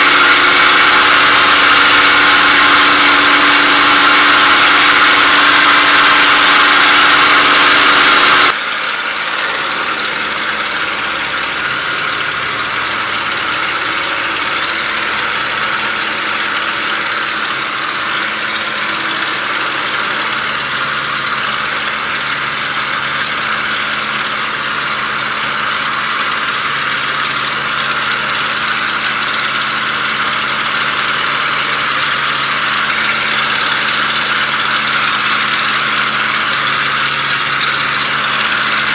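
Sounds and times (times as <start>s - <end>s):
aircraft piston engine drone: 0.0s - 38.9s
propeller and air noise: 0.0s - 38.9s.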